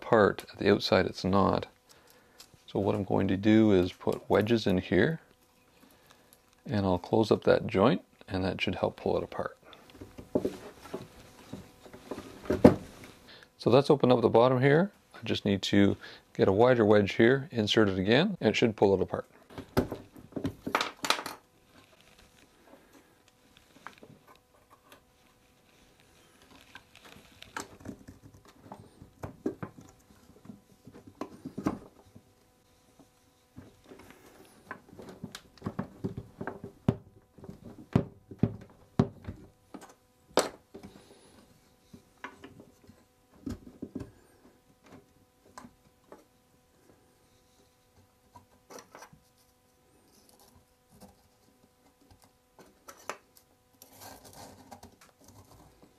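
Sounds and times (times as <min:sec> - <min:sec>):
faint steady hum: 0:00.0 - 0:55.9.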